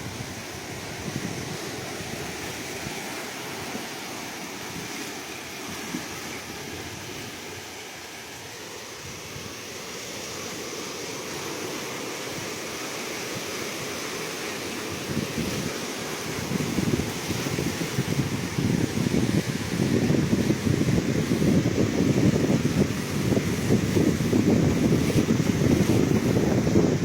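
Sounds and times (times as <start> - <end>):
ocean waves washing onto shore: 0.0 - 27.0.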